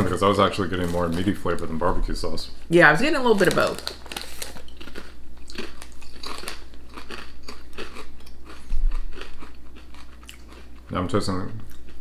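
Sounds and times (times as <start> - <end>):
crisps being crunched: 0.0 - 2.4, 3.1 - 11.9.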